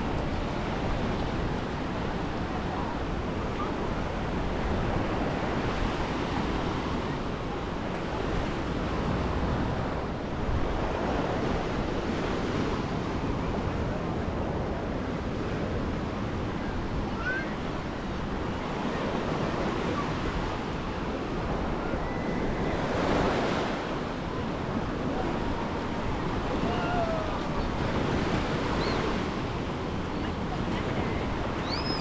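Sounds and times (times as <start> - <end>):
waves breaking on beach: 0.0 - 32.0.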